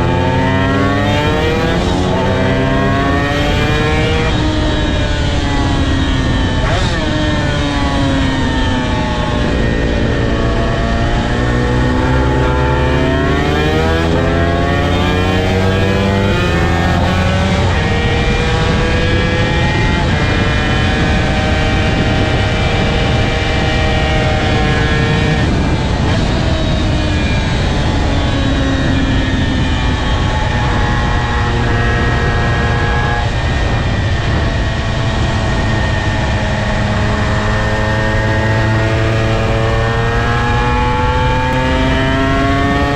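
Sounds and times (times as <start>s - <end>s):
motorcycle engine racing: 0.0s - 42.9s.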